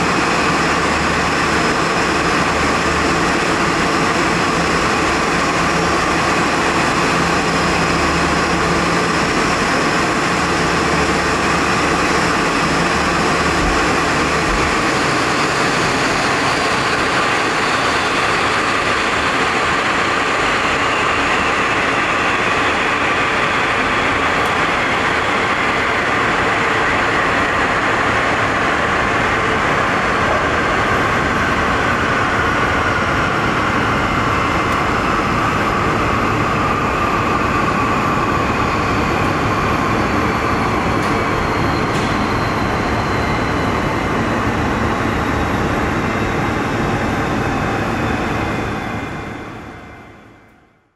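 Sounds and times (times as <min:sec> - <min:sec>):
jet engines winding down: 0:00.0 - 0:50.9.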